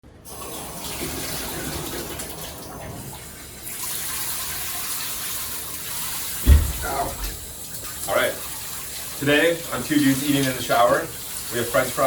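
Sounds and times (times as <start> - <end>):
shower spraying water: 0.2 - 12.0.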